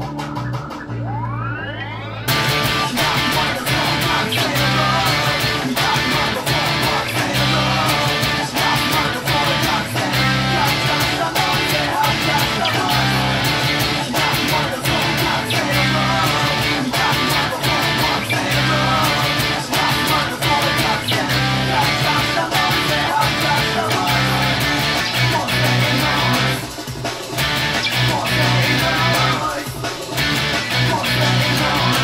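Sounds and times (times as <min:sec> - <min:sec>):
electric bass notes: 0:00.0 - 0:26.7, 0:27.4 - 0:29.5, 0:30.2 - 0:32.0
rock band track: 0:00.0 - 0:32.0
person singing: 0:01.0 - 0:32.0.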